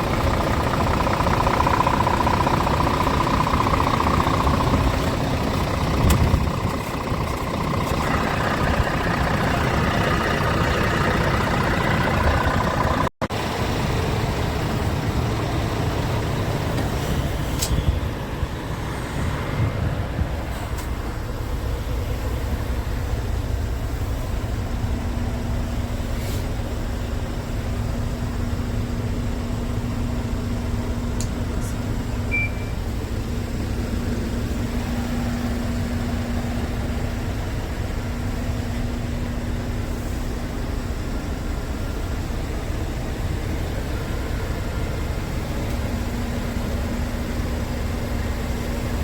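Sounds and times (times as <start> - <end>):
diesel truck engine running: 0.0 - 49.0.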